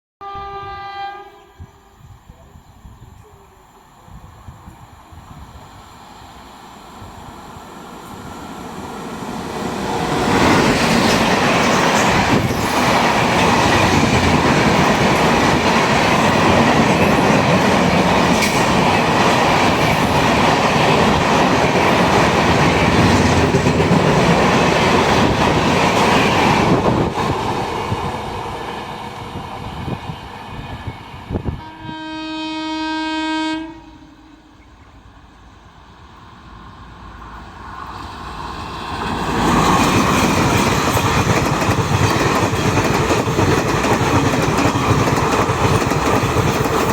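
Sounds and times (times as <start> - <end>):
train passing at speed: 0.2 - 46.9.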